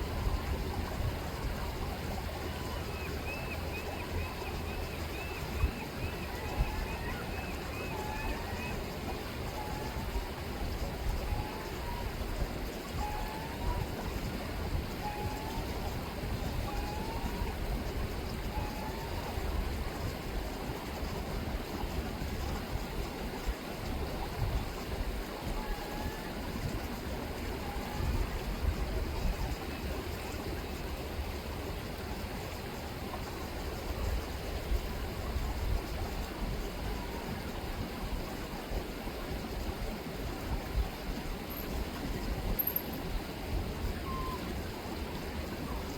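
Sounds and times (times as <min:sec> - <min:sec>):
river water rippling: 0:00.0 - 0:45.9.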